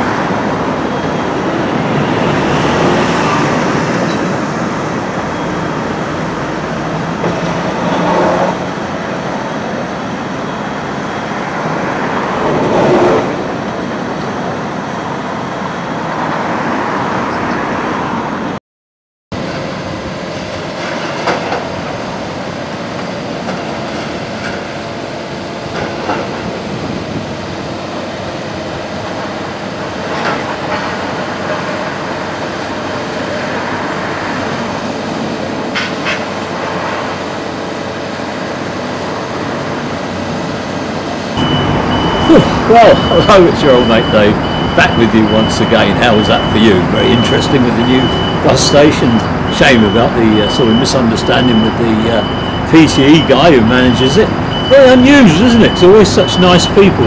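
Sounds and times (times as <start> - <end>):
excavator machinery rumble: 0.0 - 18.0, 19.4 - 55.7.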